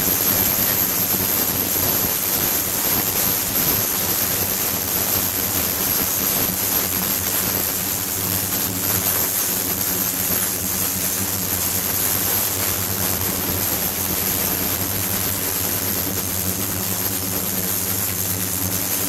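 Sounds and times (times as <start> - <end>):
ultrasonic cleaner hum: 0.0 - 19.0.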